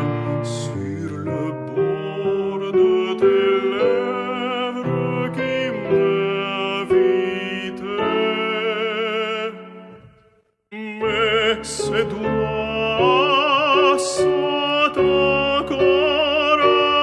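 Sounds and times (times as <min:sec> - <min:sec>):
tenor singing with vibrato: 0:00.0 - 0:10.1, 0:10.7 - 0:17.0
piano accompaniment: 0:00.0 - 0:17.0.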